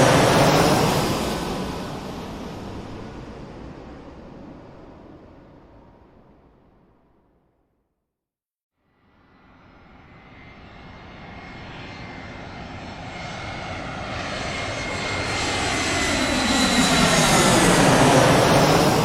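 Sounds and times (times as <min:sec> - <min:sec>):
airplane engine rush: 0:00.0 - 0:07.0, 0:09.2 - 0:19.0.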